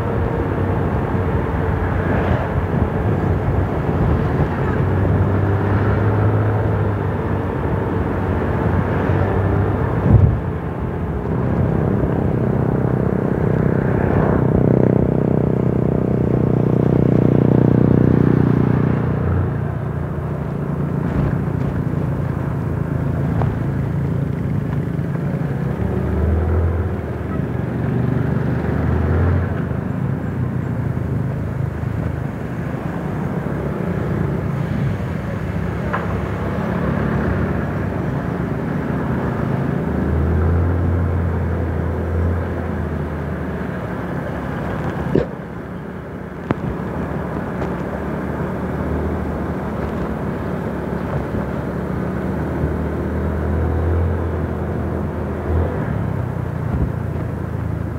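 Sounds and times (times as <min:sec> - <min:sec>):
engine hum: 0:00.0 - 0:57.9
wind and road rumble: 0:00.0 - 0:57.9.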